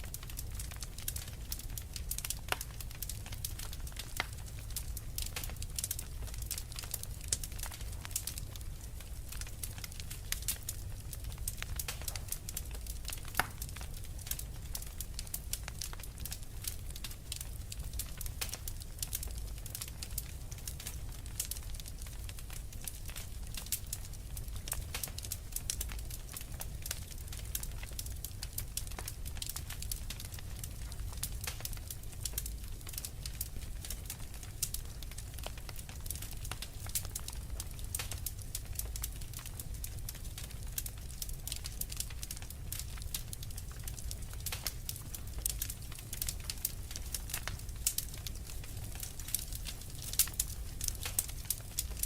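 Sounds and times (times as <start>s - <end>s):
fireplace fire crackling: 0.0s - 52.0s.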